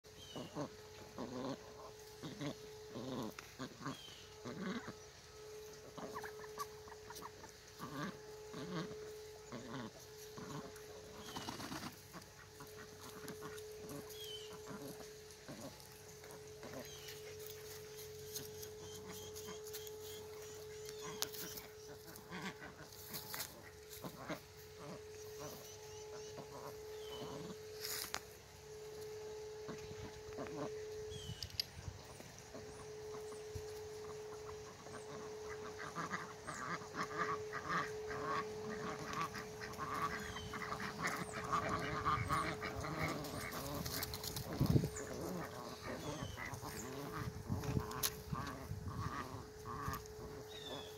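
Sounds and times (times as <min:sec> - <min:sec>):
faint hum: 0:00.1 - 0:50.9
ducks quacking: 0:00.3 - 0:28.1, 0:29.2 - 0:31.0, 0:32.2 - 0:50.9.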